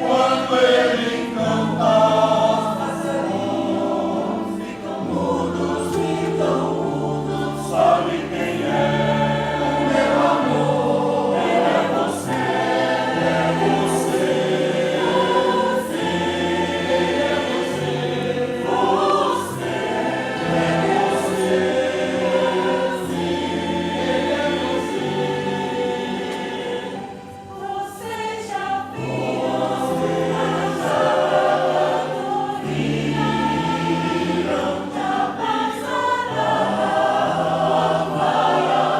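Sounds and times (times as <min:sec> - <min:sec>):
choir singing in parts: 0:00.0 - 0:38.9
piano accompaniment: 0:00.0 - 0:38.9.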